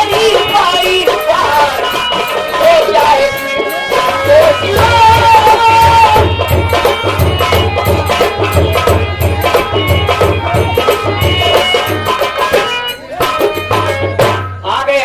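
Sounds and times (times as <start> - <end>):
wavering melody: 0.0 - 14.3
hand drum rhythm: 0.0 - 15.0.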